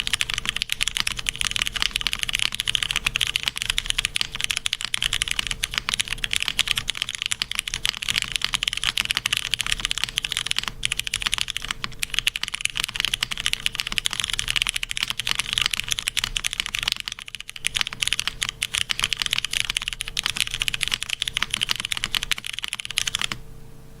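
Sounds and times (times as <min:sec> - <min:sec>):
typing on mechanical keyboard: 0:00.0 - 0:23.4
faint steady hum: 0:00.0 - 0:24.0.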